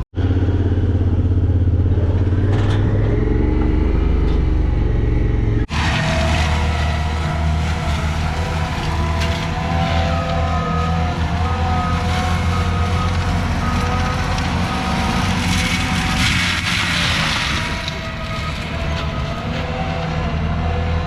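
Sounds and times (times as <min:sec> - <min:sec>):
diesel engine at high revs: 0:00.0 - 0:21.0.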